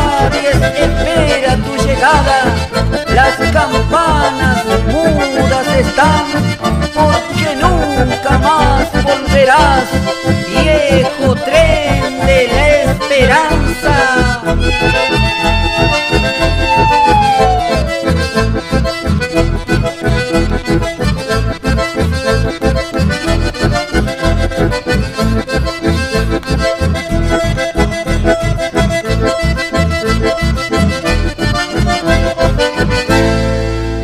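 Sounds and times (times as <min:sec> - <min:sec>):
steady bass beat: 0:00.0 - 0:33.4
accordion melody: 0:00.0 - 0:34.0.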